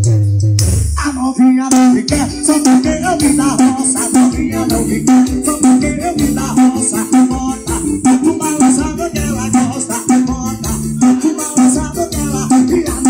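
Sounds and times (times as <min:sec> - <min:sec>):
song with heavy bass on car stereo: 0:00.0 - 0:13.0.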